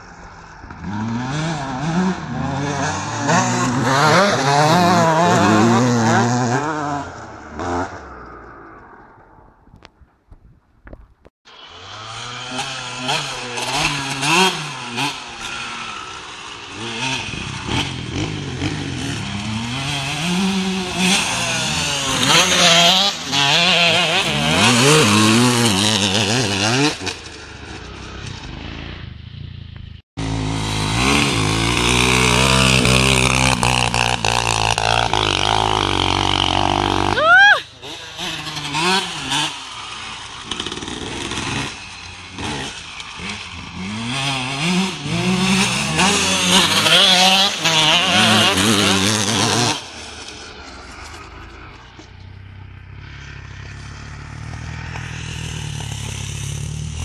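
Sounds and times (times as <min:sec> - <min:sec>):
dirt bike engines revving: 0:00.0 - 0:09.6, 0:11.5 - 0:57.0.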